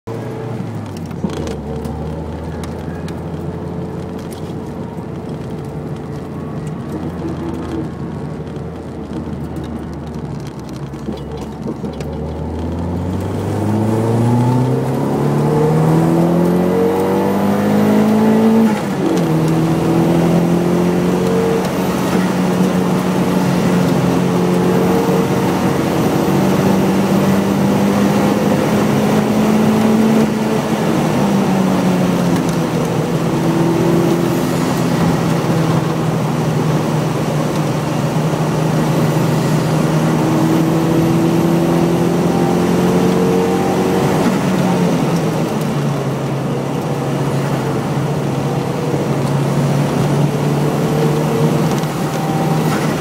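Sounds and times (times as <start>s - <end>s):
car engine revving: 0.1s - 53.0s.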